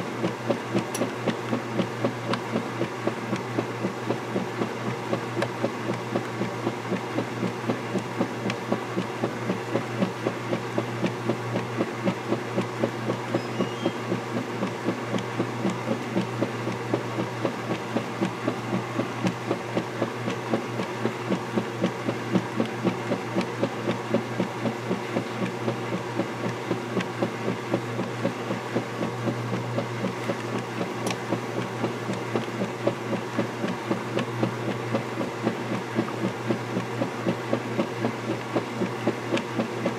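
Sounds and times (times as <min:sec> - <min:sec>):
rhythmic sloshing of water and clothes: 0:00.0 - 0:39.9
washing machine motor hum: 0:00.0 - 0:39.9.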